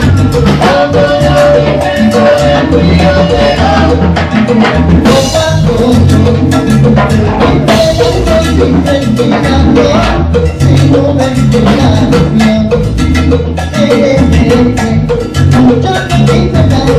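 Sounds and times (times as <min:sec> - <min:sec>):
salsa band playing: 0:00.0 - 0:16.9.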